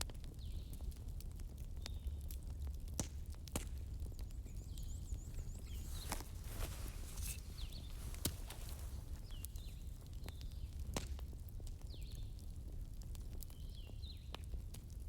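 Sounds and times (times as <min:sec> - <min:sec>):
wood fire crackling: 0:01.0 - 0:15.0.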